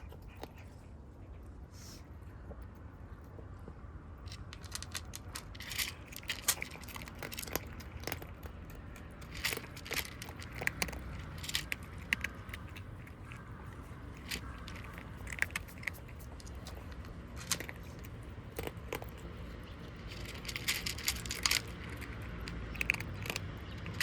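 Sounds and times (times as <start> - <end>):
kittens crunching food: 0.0 - 24.0.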